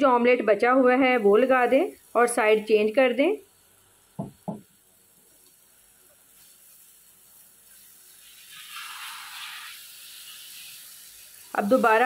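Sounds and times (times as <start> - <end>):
flatbread sizzling in oil: 1.2 - 12.0.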